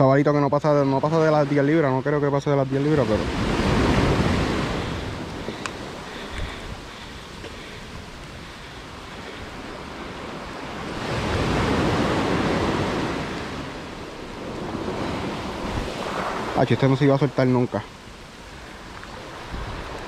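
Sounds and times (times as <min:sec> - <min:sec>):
sea surf washing ashore: 0:00.0 - 0:20.0.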